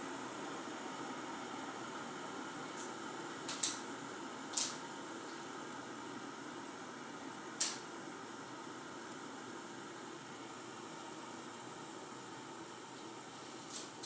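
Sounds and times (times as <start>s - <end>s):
kettle boiling and bubbling: 0.0s - 14.0s.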